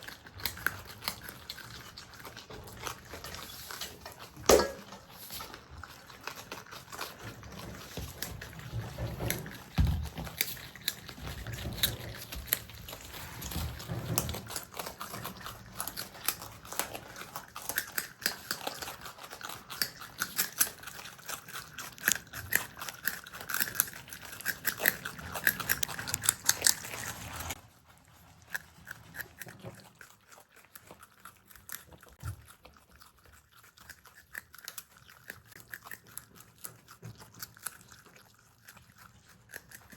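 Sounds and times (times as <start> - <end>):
marmots chewing and crunching food: 0.0 - 39.9.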